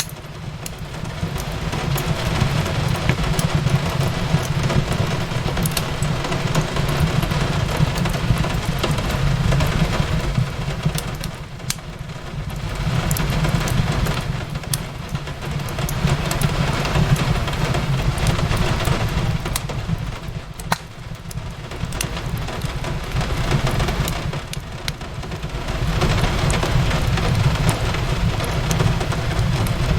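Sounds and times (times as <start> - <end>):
fireplace crackling and popping: 0.0 - 29.9
rain on a window: 0.0 - 29.9.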